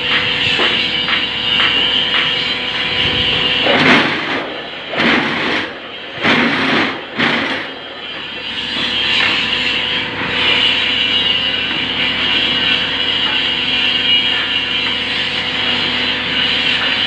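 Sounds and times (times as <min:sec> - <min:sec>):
hydraulic press hum: 0:00.0 - 0:17.0
noisy hydraulic rushes: 0:00.0 - 0:17.0.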